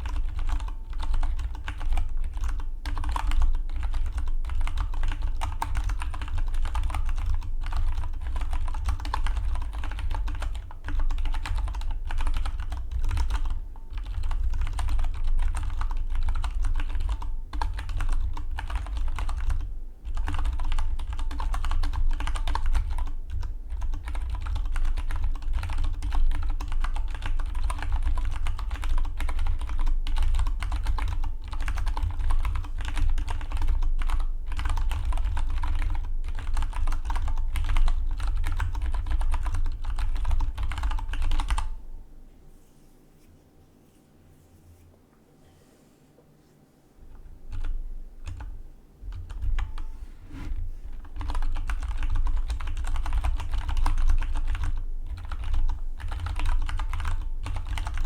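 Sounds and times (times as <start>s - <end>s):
mechanical keyboard typing: 0.0s - 41.7s, 51.1s - 58.0s.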